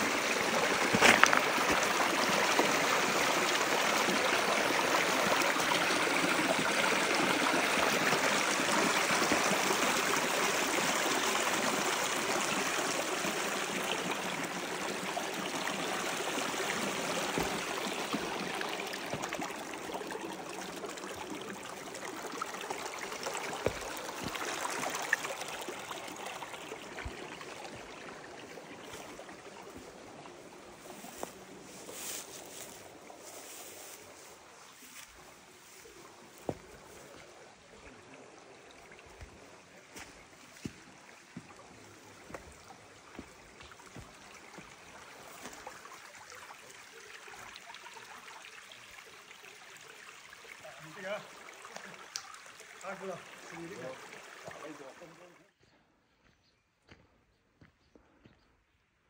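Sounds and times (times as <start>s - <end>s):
stream rushing over rocks: 0.0s - 55.4s.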